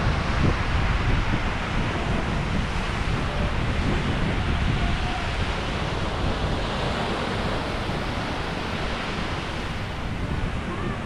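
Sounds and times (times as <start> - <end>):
sea waves washing onto beach: 0.0 - 11.0
wind rumbling on microphone: 0.0 - 11.0.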